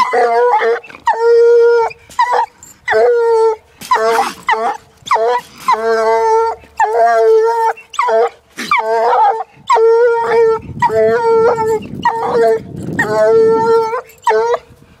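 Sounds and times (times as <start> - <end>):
hound baying and barking: 0.0 - 14.8.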